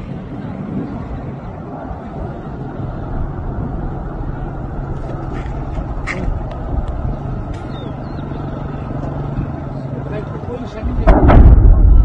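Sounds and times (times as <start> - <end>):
fire roaring: 0.0 - 12.0
low hum: 0.0 - 12.0.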